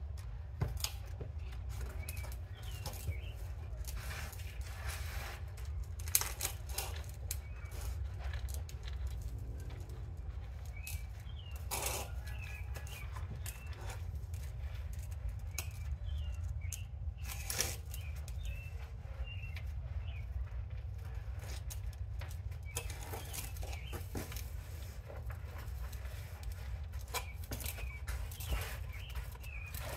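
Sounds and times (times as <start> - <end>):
rustling and scraping of mulch: 0.0 - 29.9
small birds chirping: 1.4 - 4.9, 6.1 - 29.9.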